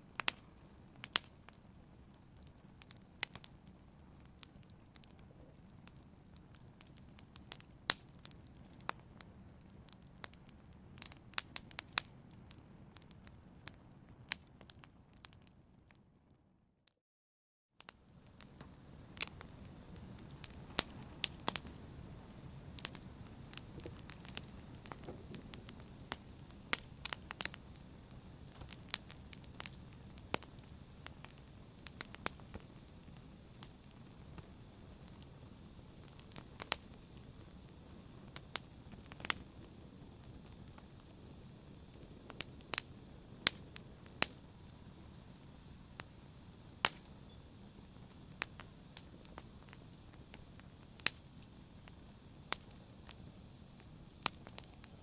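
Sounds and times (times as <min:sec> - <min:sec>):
wood fire crackling and popping: 0:00.0 - 0:16.0, 0:17.8 - 0:55.0
low rumble of flames: 0:00.1 - 0:15.1, 0:18.0 - 0:55.0.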